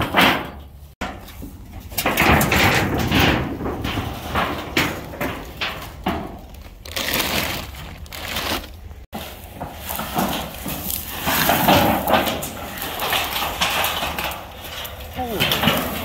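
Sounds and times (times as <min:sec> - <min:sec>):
plastic tarp crinkling: 0:02.1 - 0:16.0.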